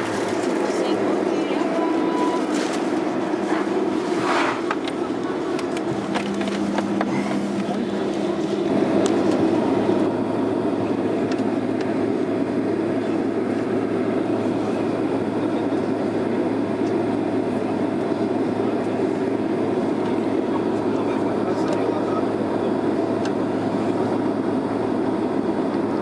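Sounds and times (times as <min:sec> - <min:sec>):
airliner cabin rumble and hum: 0:00.0 - 0:26.0.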